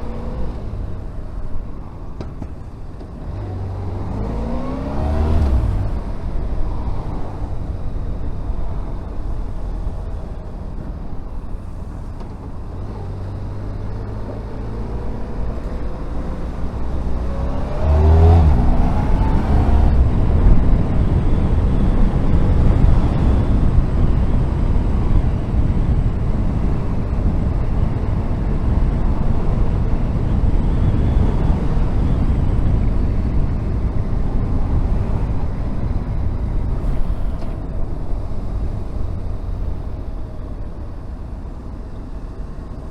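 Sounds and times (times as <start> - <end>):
wind and road noise: 0.0 - 42.9
motorcycle engine accelerating: 3.0 - 12.0, 12.6 - 40.4.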